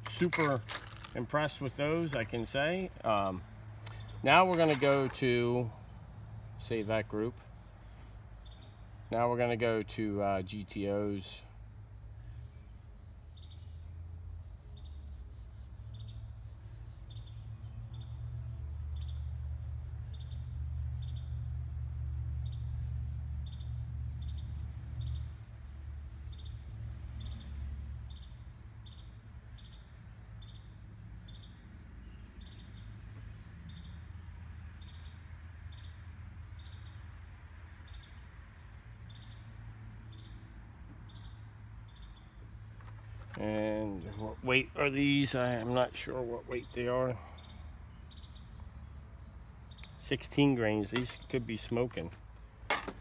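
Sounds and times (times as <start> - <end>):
high insect buzz: 0.0 - 53.0
insects chirping: 0.0 - 53.0.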